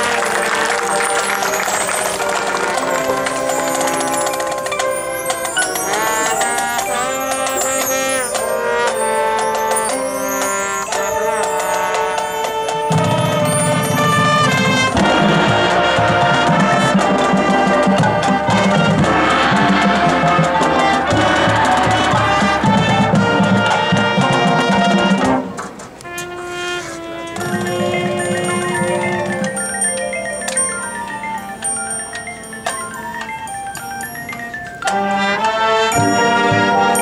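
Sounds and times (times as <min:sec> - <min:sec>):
brass chords: 0:00.0 - 0:32.8, 0:34.8 - 0:37.0
marching band playing: 0:00.0 - 0:37.0
percussion: 0:00.0 - 0:37.0.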